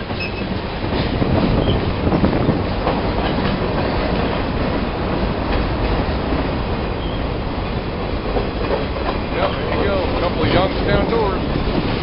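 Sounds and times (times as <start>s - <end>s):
train wheels on rails: 0.0s - 12.0s
wheels clicking over track: 0.0s - 12.0s.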